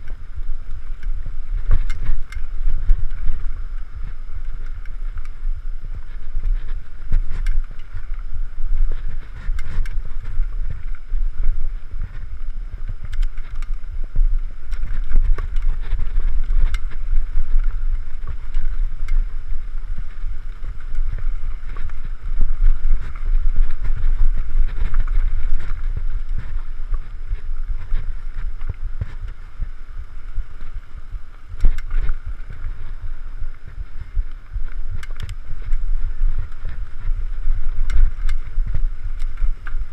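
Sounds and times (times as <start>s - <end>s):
bike clicks and rattles: 0.0s - 39.9s
bike rumbling on dirt trail: 0.0s - 39.9s
wind on microphone: 0.0s - 39.9s.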